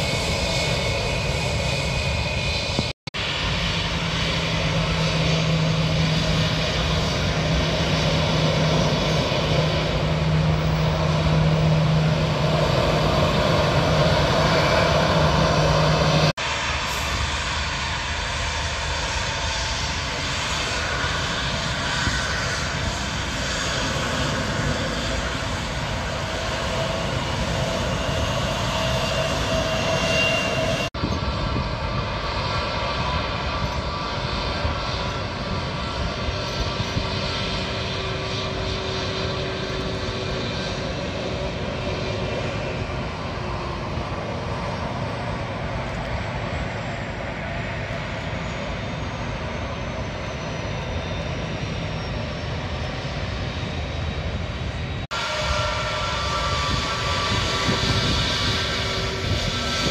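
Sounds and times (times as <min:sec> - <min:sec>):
airliner engine noise: 0:00.0 - 0:59.9.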